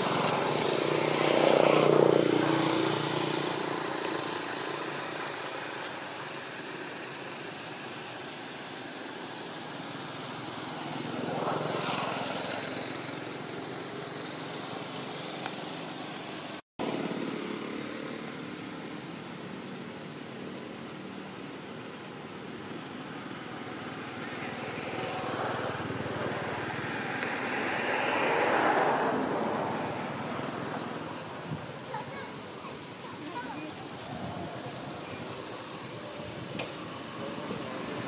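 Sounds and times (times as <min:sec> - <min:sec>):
motor vehicles passing: 0:00.0 - 0:38.0
steady outdoor hiss: 0:00.0 - 0:38.0.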